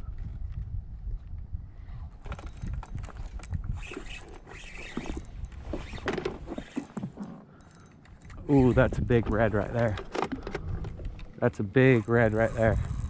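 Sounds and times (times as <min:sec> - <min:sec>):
wind buffeting microphone: 0:00.0 - 0:06.7, 0:08.3 - 0:11.4, 0:12.0 - 0:13.0
gear clicking and rattling: 0:02.2 - 0:13.0.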